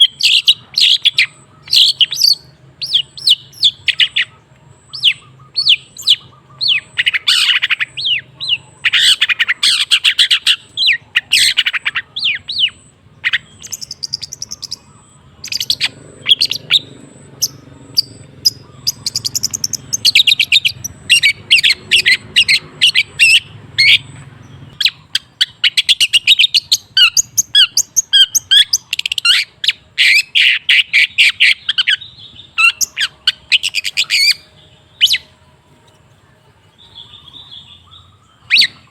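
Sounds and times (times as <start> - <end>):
bird singing scratchy chatter: 0.0 - 38.9.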